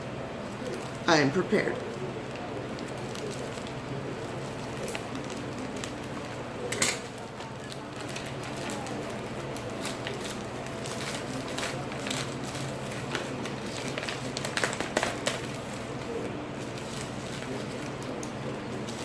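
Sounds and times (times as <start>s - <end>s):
cardboard packaging crackling: 0.4s - 19.0s
packaging ripping: 1.8s - 19.0s.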